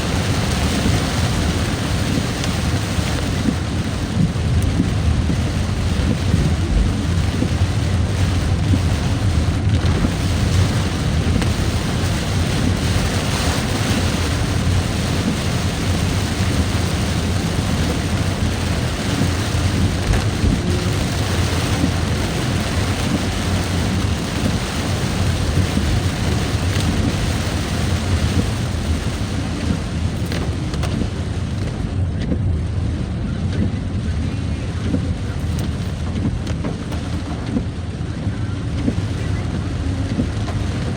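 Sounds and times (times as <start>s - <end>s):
vehicle road noise: 0.0s - 40.9s
wind buffeting microphone: 0.0s - 40.9s.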